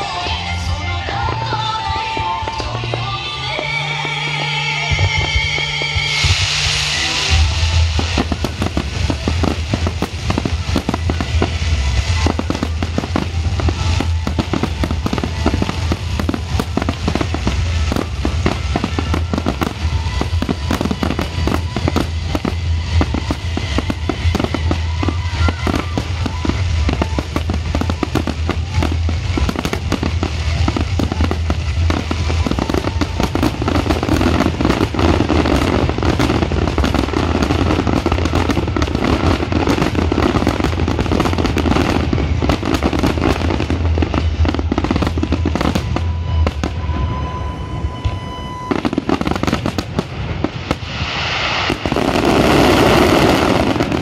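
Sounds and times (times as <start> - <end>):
fireworks bursting and crackling: 0.0 - 54.0
music playing: 0.0 - 54.0.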